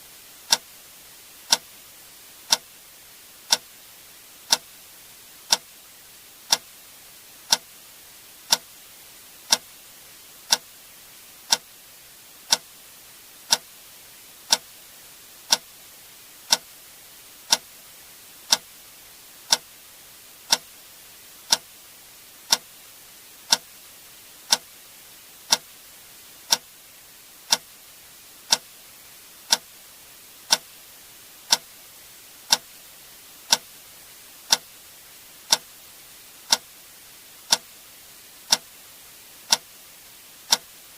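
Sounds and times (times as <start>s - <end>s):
faint steady hiss: 0.0s - 40.9s.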